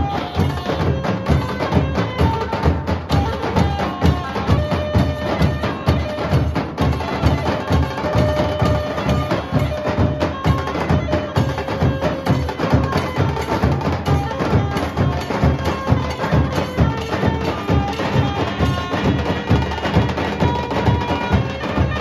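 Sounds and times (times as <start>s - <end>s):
barrel drums beaten with sticks: 0.0s - 22.0s.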